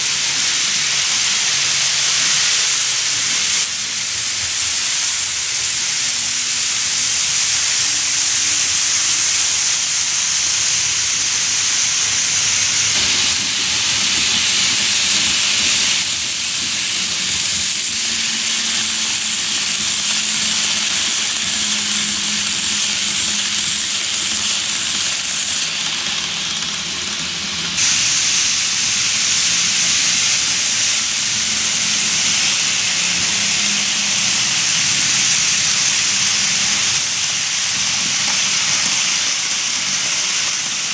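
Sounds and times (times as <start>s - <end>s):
faint motor hum: 0.0s - 40.9s
model train wheels hissing: 0.0s - 40.9s.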